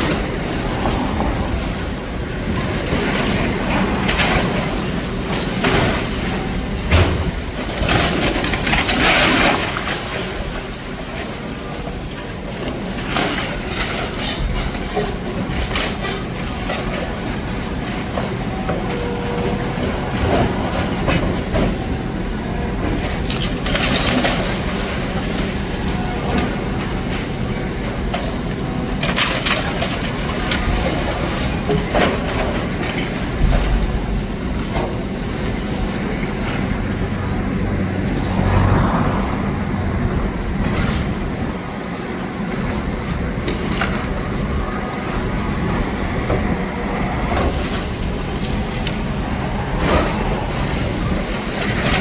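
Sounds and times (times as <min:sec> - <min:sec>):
excavator engine running: 0:00.0 - 0:52.0.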